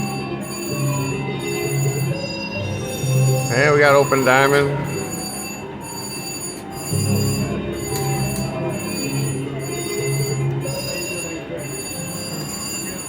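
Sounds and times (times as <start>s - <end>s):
ringing chime tones: 0.0s - 13.0s
slot machine game music: 0.0s - 13.0s.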